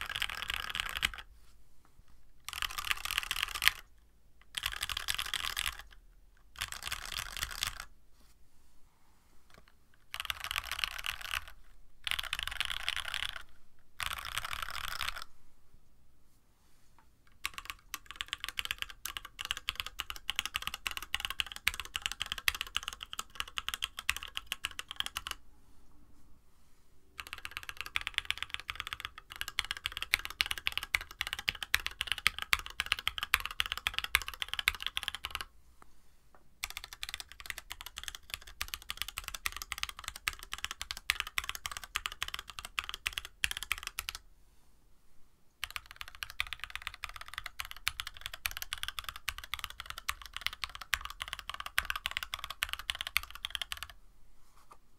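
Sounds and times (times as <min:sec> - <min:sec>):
mechanical keyboard typing: 0:00.0 - 0:01.3, 0:02.4 - 0:07.9, 0:09.5 - 0:15.3, 0:17.3 - 0:25.4, 0:27.2 - 0:35.5, 0:36.6 - 0:44.2, 0:45.6 - 0:54.0.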